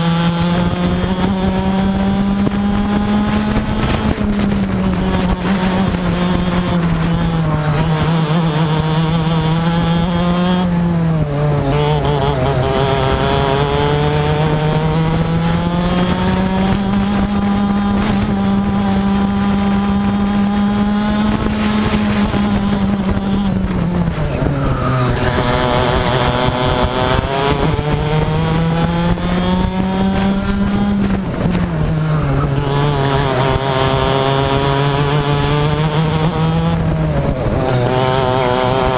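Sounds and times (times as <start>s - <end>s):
racing kart engine at high revs: 0.0s - 38.9s.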